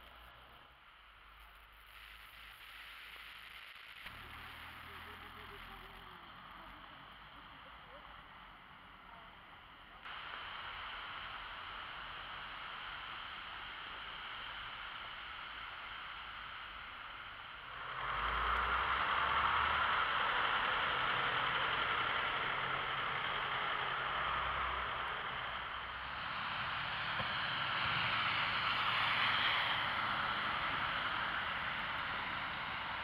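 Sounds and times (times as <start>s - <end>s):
traffic hiss on wet road: 0.0s - 33.0s
low vehicle rumble: 4.0s - 33.0s.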